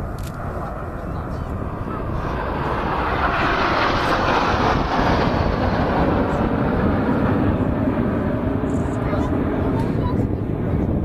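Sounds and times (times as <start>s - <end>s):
jets flying by roaring: 0.0s - 11.0s.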